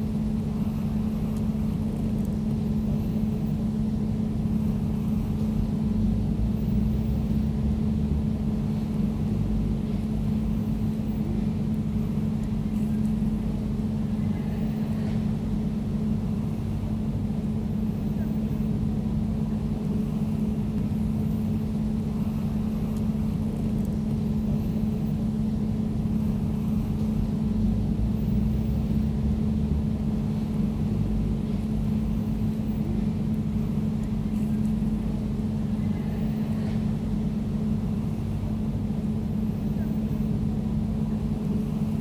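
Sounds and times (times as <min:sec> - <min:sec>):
air conditioner humming: 0:00.0 - 0:42.0.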